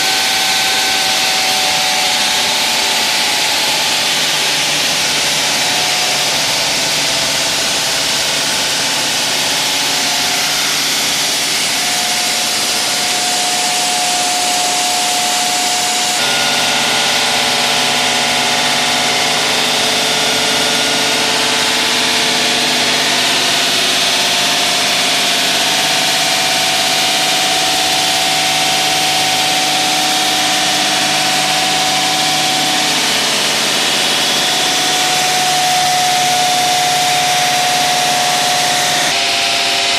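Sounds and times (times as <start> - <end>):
saw cutting concrete: 0.0 - 39.9.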